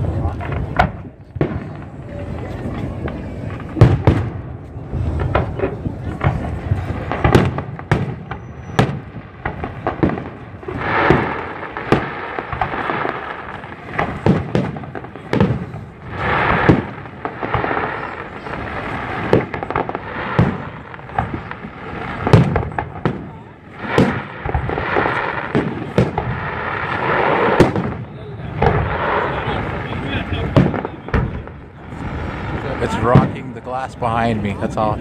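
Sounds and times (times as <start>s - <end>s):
fireworks bursting with sharp bangs: 0.0s - 35.0s
rushing fireworks noise: 0.0s - 35.0s.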